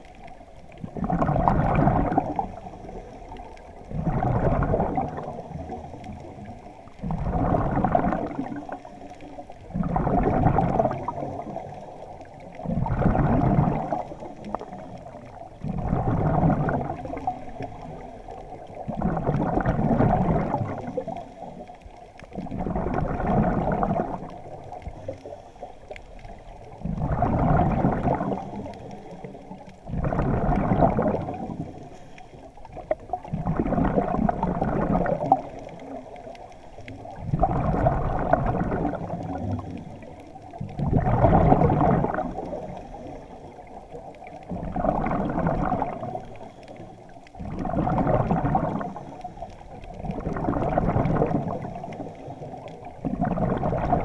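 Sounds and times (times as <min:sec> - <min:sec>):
diver exhaling bubbles underwater: 0:00.8 - 0:21.6, 0:22.3 - 0:25.4, 0:26.6 - 0:54.0.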